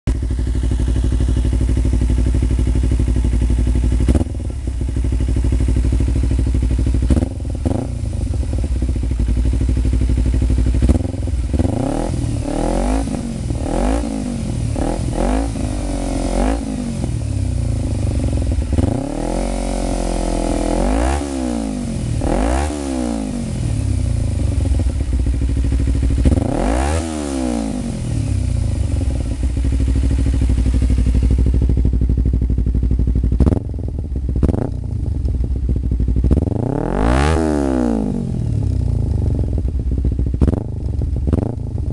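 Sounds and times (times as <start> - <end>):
motorcycle engine revving: 0.1 - 41.9.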